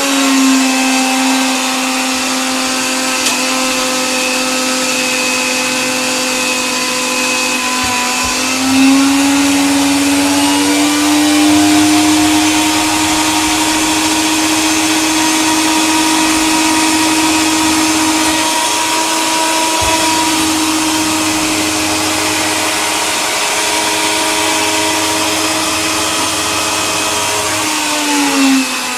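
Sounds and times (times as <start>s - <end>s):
coffee grinder motor whining: 0.0s - 28.9s.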